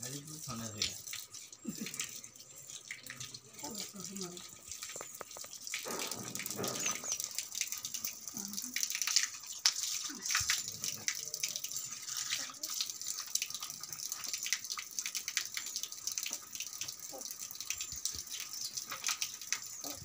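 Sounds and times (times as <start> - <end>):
water running from a tap: 0.0 - 20.0
water splashing on concrete: 0.0 - 20.0.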